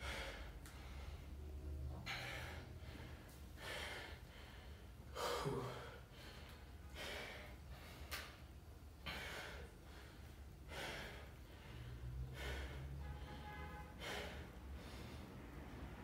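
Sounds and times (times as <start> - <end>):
man breathing hard: 0.0 - 8.4, 9.0 - 15.8.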